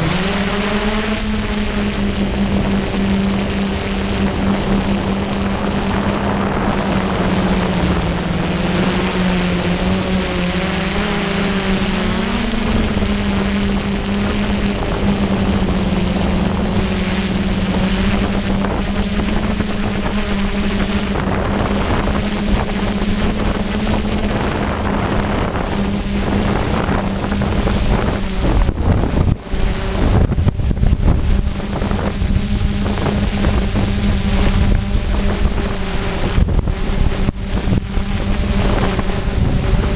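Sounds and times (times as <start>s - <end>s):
drone motors humming: 0.0s - 39.9s
wind buffeting microphone: 0.0s - 39.9s.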